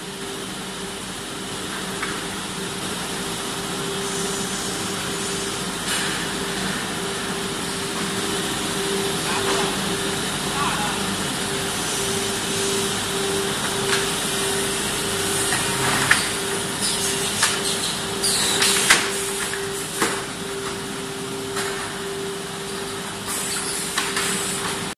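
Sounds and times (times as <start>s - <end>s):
machine motor hum: 0.0s - 24.9s.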